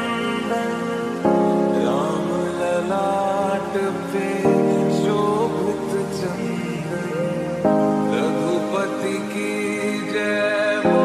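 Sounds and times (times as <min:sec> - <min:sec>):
melodic background music: 0:00.0 - 0:11.0.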